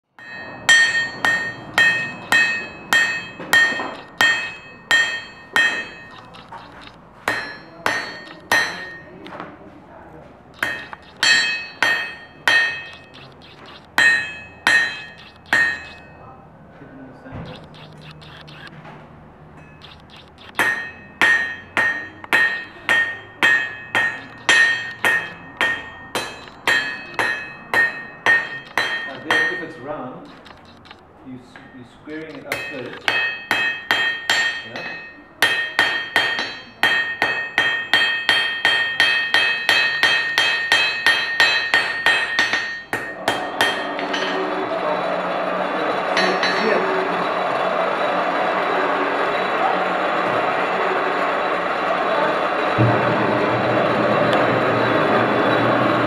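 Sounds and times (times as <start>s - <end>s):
hammer striking metal on anvil: 0.2s - 9.2s, 10.6s - 16.2s, 19.6s - 45.4s, 46.0s - 47.4s, 52.7s - 55.8s.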